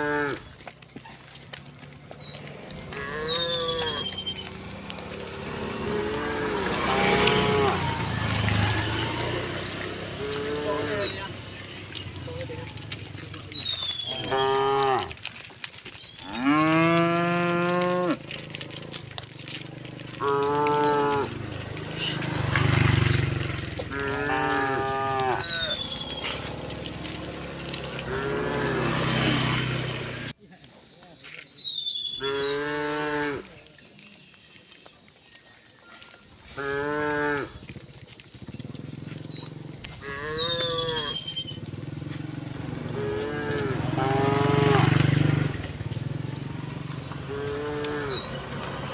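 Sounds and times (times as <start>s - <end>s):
cows mooing: 0.0s - 30.3s, 32.2s - 33.6s, 36.4s - 48.9s
low rumbling: 0.0s - 30.4s, 37.2s - 48.9s
birds chirping and whistling: 0.4s - 30.3s, 31.0s - 32.8s, 37.5s - 48.9s.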